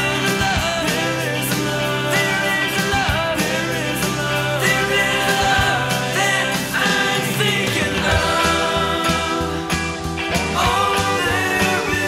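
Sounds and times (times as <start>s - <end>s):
rock song with vocals: 0.0s - 12.0s.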